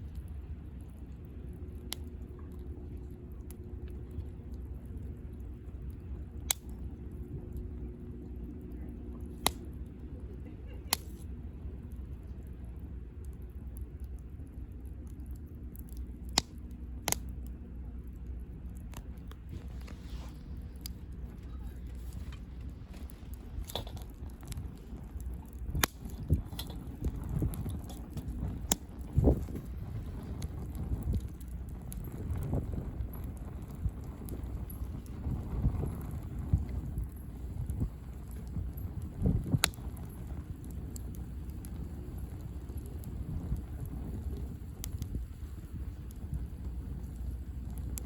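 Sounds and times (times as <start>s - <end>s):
campfire burning: 0.0s - 48.0s
low rumble: 0.0s - 48.0s
sharp crackling pops of fire: 0.0s - 48.0s.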